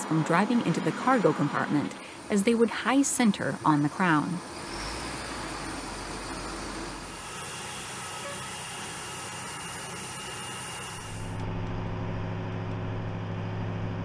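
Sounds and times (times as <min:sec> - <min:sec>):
heavy vehicle engine running: 0:00.0 - 0:14.0
low engine drone: 0:00.0 - 0:14.0.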